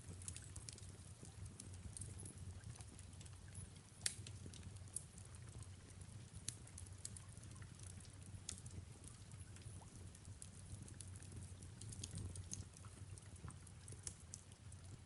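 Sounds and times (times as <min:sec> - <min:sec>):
fireplace crackling and popping: 0:00.0 - 0:15.0
soft rain: 0:00.0 - 0:15.0.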